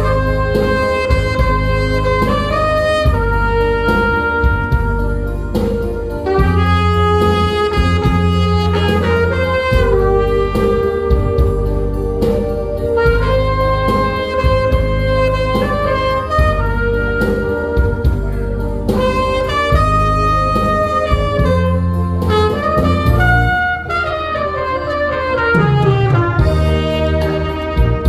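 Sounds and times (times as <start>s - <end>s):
saxophone melody: 0.0s - 28.0s
steady bass line: 0.0s - 28.0s.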